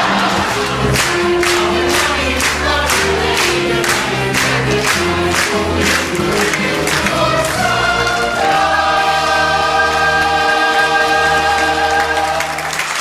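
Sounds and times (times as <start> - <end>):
cast singing in chorus: 1.3 - 13.0.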